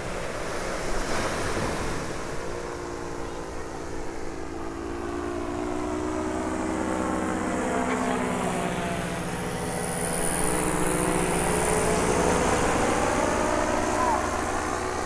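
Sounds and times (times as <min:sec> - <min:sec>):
paramotor engine and propeller droning: 0:00.0 - 0:15.0.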